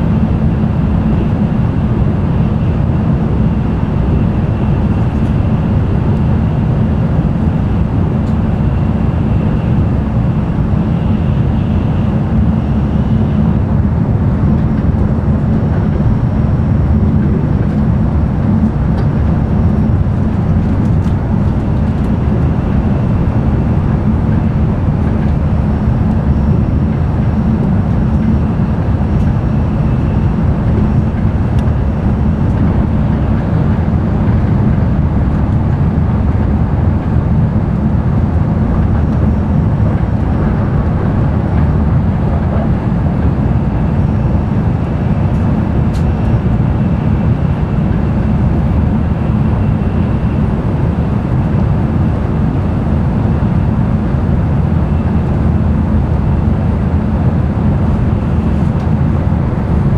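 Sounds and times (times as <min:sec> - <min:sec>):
train cabin low rumble: 0:00.0 - 0:59.9.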